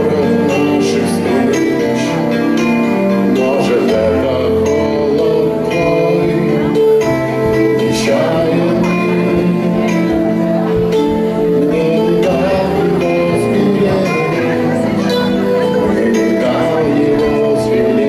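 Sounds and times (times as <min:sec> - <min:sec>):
instrumental accompaniment: 0:00.0 - 0:18.0
man singing into microphone: 0:00.0 - 0:18.0.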